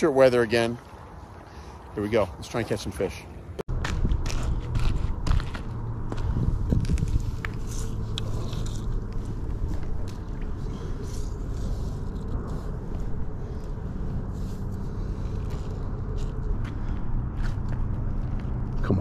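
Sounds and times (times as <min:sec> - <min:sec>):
traffic rumble on bridge: 0:00.0 - 0:19.0.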